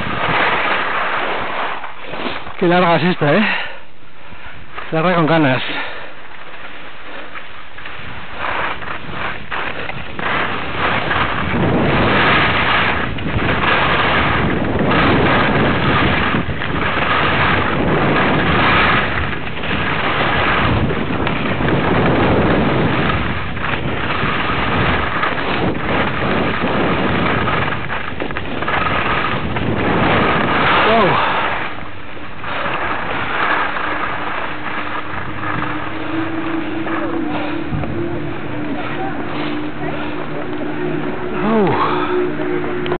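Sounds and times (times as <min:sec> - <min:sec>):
wind on microphone: 0:00.0 - 0:03.0, 0:06.7 - 0:42.9
skis hissing over snow: 0:00.0 - 0:42.5.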